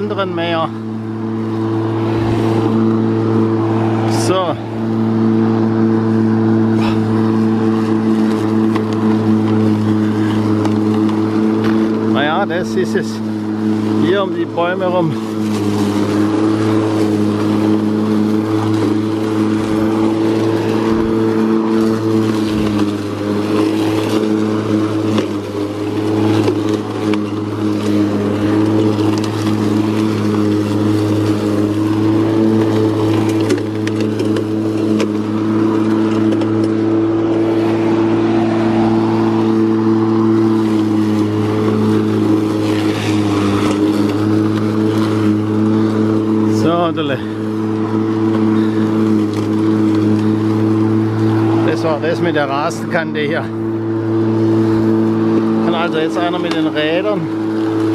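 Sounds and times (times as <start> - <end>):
grass being cut hiss: 0.0 - 57.9
lawn mower motor hum: 0.0 - 57.9.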